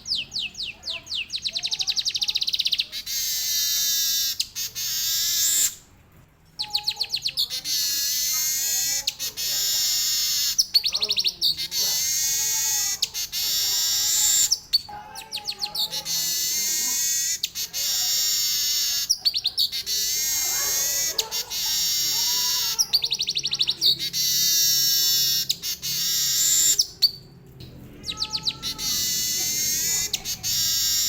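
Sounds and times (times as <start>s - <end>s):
weaver bird singing: 0.0s - 5.8s, 6.6s - 27.3s, 27.9s - 31.0s.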